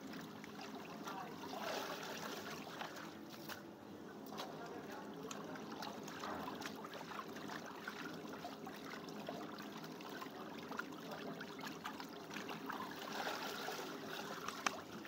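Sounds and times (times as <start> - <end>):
water trickling and splashing: 0.0 - 3.6, 4.2 - 15.0.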